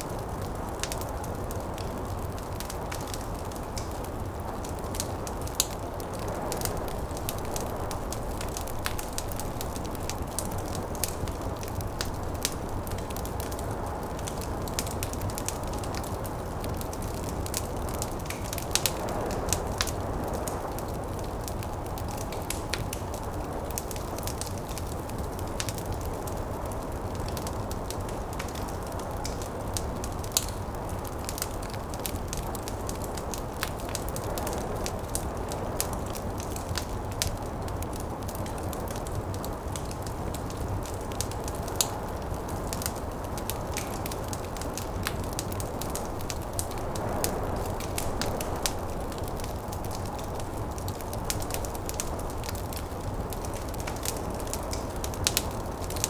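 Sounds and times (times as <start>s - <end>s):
wood fire crackling: 0.0s - 56.0s
snowstorm wind: 4.2s - 56.0s.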